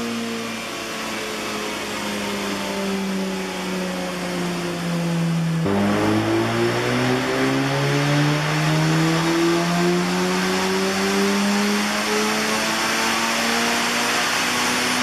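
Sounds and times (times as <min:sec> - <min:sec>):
rotary engine on a dyno: 0:00.0 - 0:15.0.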